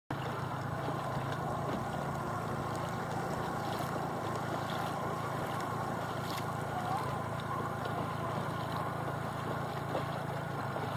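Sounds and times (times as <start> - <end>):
motorboat engine humming: 0.1 - 10.9
water washing around hull: 0.1 - 10.9.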